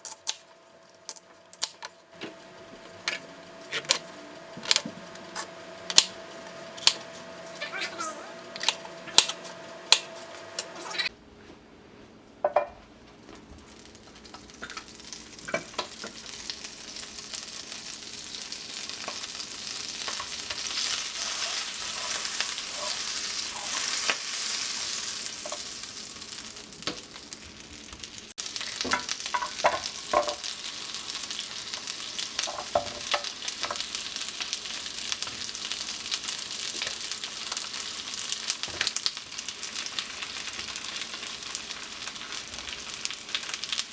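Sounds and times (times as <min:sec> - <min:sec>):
food sizzling in a frying pan: 0:02.2 - 0:11.1, 0:13.3 - 0:43.9.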